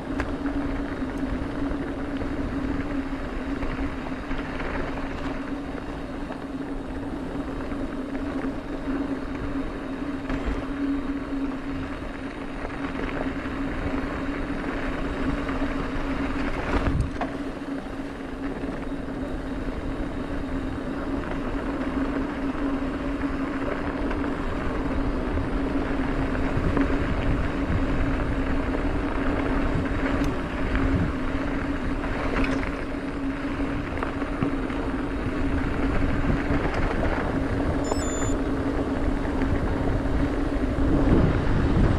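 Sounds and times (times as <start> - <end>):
bike tyres humming on dirt: 0.0 - 41.9.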